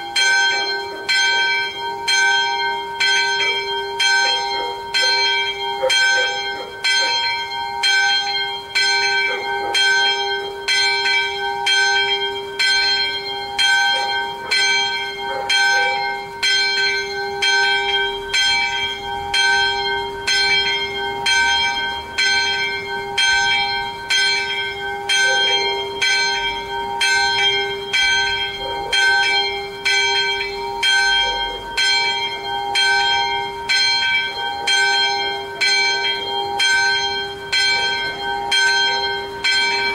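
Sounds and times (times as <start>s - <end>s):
small church bell ringing: 0.0s - 39.9s.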